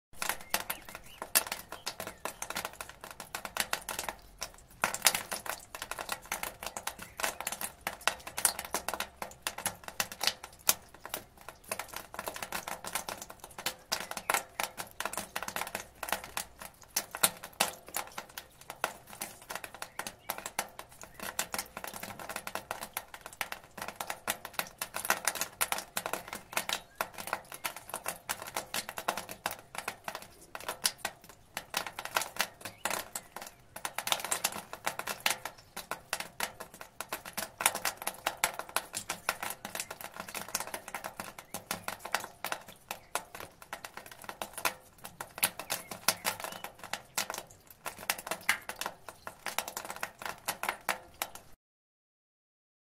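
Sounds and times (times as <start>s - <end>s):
rainwater dripping from gutter: 0.1s - 51.6s.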